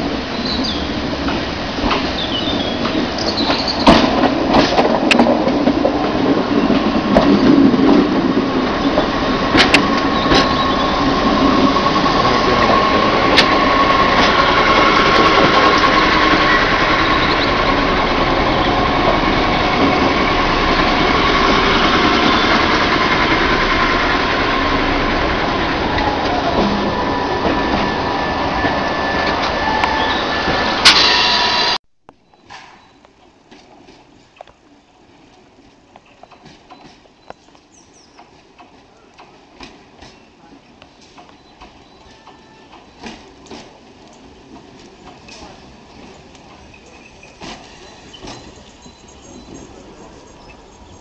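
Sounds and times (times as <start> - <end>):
train slowing into platform: 0.0 - 51.0.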